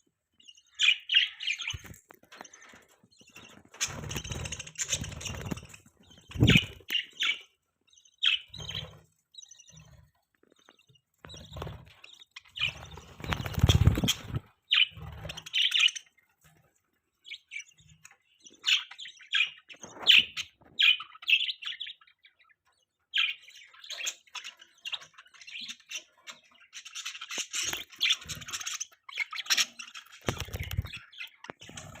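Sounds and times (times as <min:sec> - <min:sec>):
budgerigars chirping: 0:00.4 - 0:16.2, 0:17.2 - 0:32.0.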